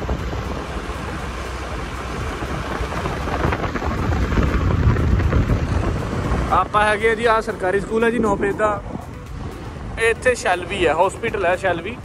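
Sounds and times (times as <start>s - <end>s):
road and traffic noise: 0.0s - 12.0s
wind rumbling on microphone: 0.0s - 12.0s.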